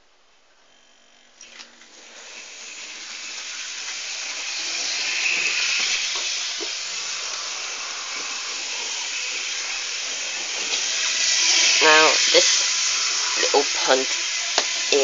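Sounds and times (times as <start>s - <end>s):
model train motor whirring: 0.7s - 15.0s
wheels running on track: 1.8s - 15.0s.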